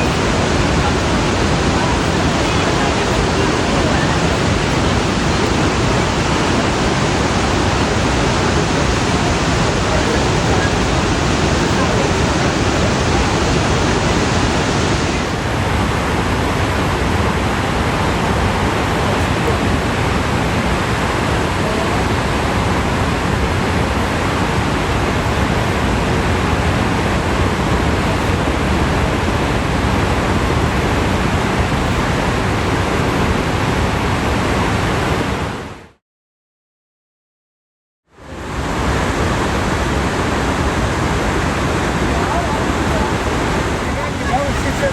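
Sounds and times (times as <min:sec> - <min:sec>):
waterfall rushing: 0:00.0 - 0:35.8, 0:38.2 - 0:44.9.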